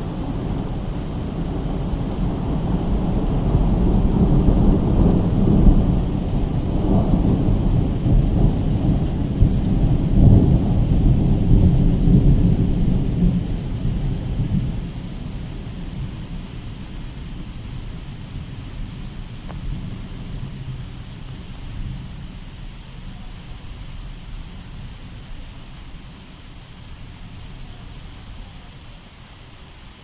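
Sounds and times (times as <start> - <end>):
thunder rumbling: 0.0 - 28.3
rain: 0.0 - 30.0.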